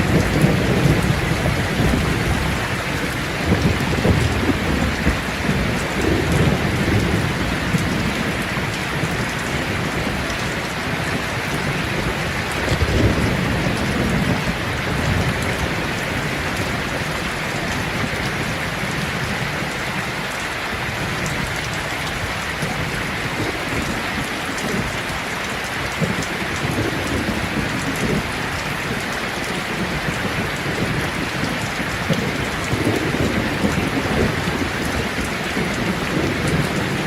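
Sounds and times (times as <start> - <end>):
rolling thunder: 0.0 - 19.6, 26.0 - 37.0
steady rain: 0.0 - 37.0.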